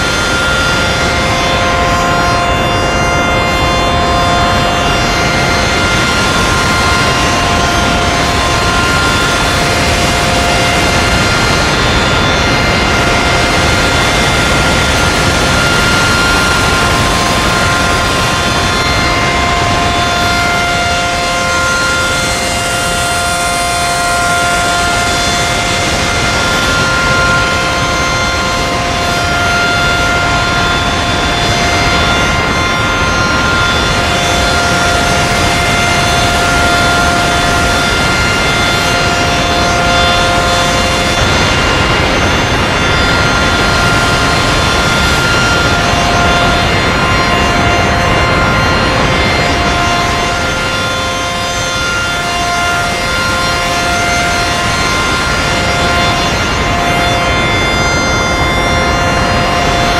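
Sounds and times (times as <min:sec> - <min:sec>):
air dryer blowers rushing: 0:00.0 - 0:59.9
fan whine: 0:00.0 - 0:59.9.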